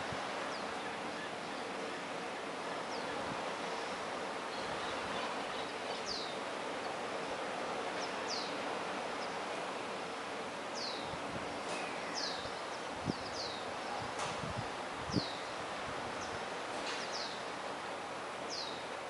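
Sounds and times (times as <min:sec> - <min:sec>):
sea waves: 0:00.0 - 0:19.0
wind: 0:00.0 - 0:19.0.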